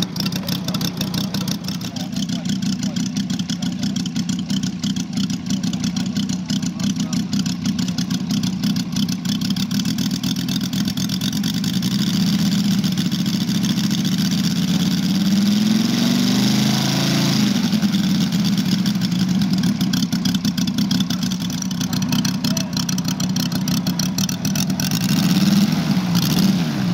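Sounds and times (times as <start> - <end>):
model aircraft engine idling: 0.0 - 15.9, 16.5 - 26.9.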